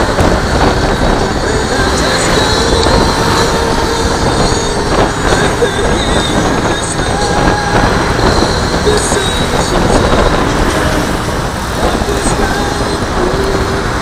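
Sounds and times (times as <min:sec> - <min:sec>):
road noise: 0:00.0 - 0:14.0
scooter engine: 0:00.0 - 0:14.0
wind rumble on microphone: 0:00.0 - 0:14.0.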